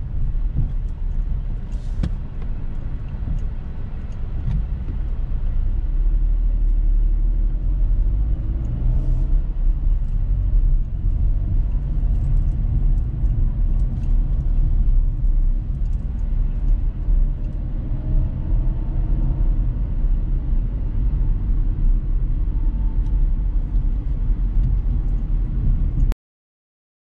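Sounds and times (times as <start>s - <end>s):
car engine and road rumble: 0.0s - 26.2s.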